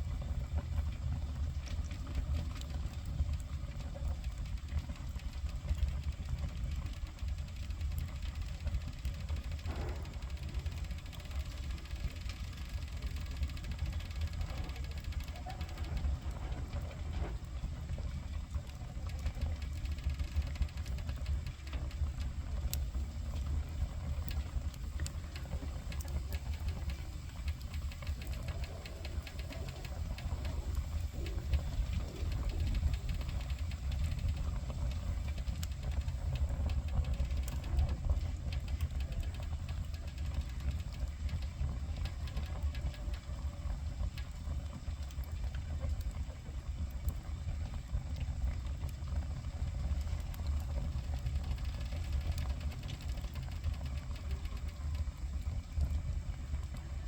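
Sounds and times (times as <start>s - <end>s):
fire crackling and popping: 0.0s - 57.0s
wood fire rumbling: 0.0s - 57.0s.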